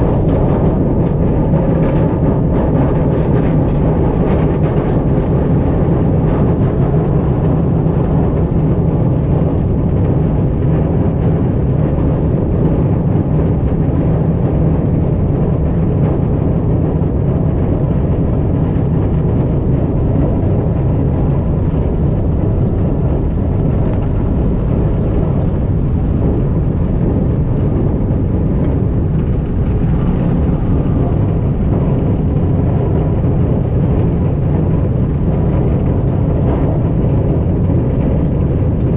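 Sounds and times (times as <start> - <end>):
light aircraft piston engine running: 0.0 - 38.9.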